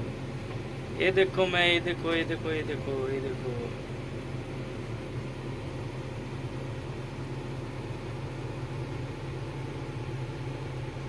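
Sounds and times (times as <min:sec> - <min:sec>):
air-conditioning hiss: 0:00.0 - 0:11.0
excavator diesel engine drone: 0:00.0 - 0:11.0.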